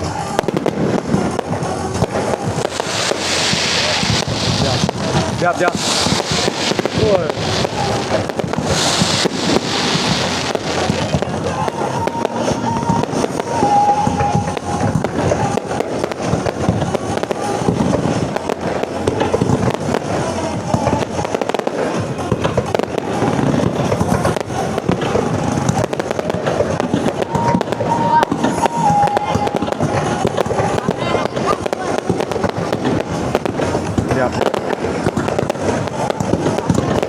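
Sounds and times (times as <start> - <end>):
fireworks bursting: 0.0 - 37.0
fireworks crackling hiss: 0.0 - 37.0.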